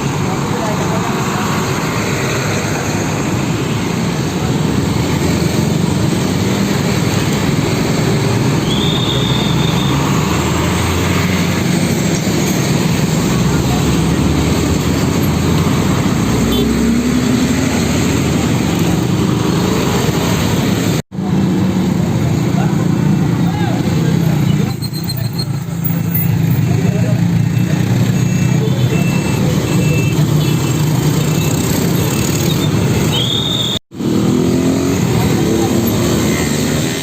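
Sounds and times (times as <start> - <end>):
diesel truck engines passing: 0.0 - 37.0
road noise roar: 0.0 - 37.0.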